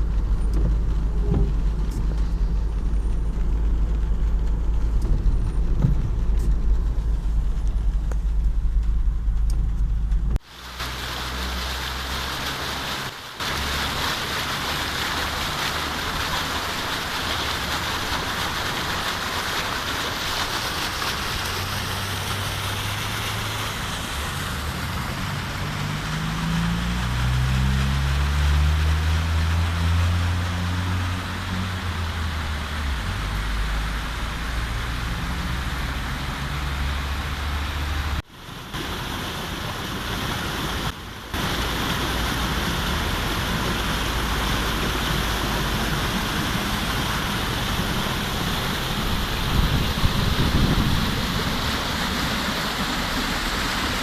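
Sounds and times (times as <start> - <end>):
car engine rumble: 0.0 - 54.0
rain and wet tyres hissing: 0.0 - 54.0.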